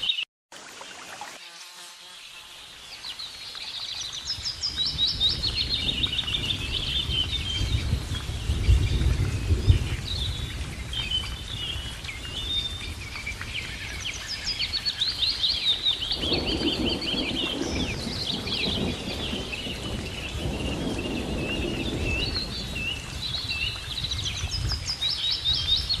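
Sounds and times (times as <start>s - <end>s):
small birds chirping: 1.6s - 26.0s.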